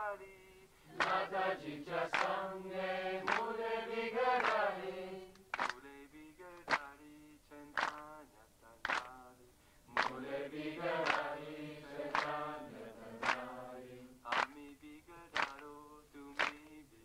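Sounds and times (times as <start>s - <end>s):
group singing a devotional chant: 0.0s - 8.2s, 8.8s - 16.9s.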